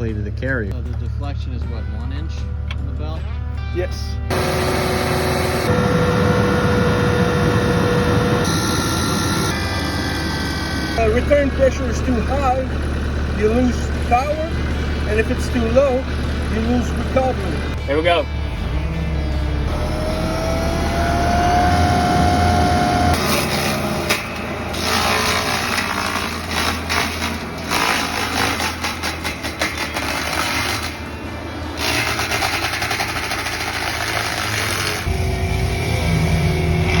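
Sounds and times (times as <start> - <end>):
excavator engine hum: 4.3 - 37.0
mulcher head whining: 4.3 - 37.0.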